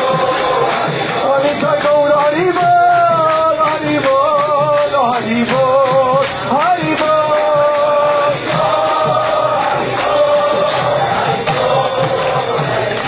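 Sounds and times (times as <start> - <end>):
crowd singing devotional chant: 0.0 - 13.0
drum beat: 0.0 - 13.0
hand cymbals: 0.0 - 13.0.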